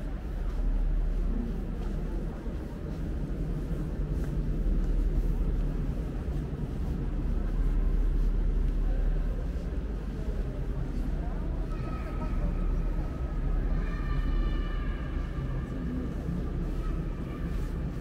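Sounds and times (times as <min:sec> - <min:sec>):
low rumble of room noise: 0:00.0 - 0:18.0.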